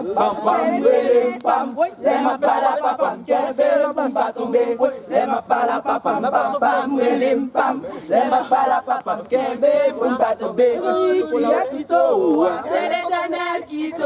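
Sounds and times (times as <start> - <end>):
crowd chanting: 0.0 - 14.0.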